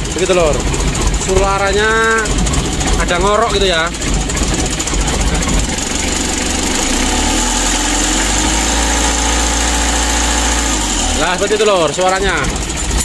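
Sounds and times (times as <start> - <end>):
rough diesel engine running: 0.0 - 13.0.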